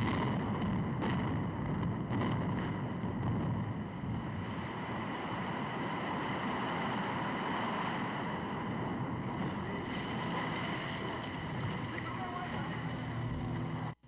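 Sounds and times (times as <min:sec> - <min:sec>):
explosive cracks: 0:00.0 - 0:13.7
building collapsing deep rumble: 0:00.0 - 0:14.0.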